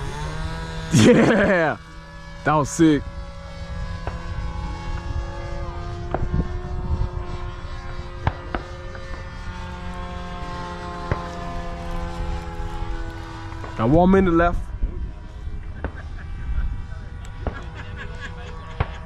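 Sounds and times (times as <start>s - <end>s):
model airplane motor whine: 0.0s - 19.0s.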